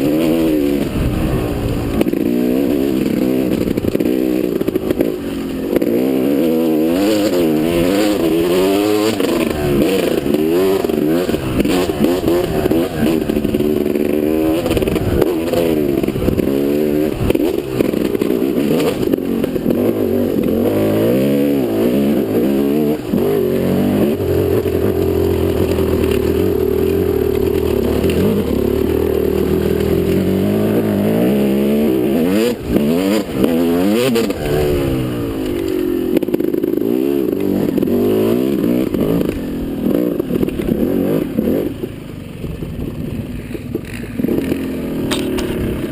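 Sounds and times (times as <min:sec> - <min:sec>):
motocross engine revving: 0:00.0 - 0:42.0, 0:43.3 - 0:45.9.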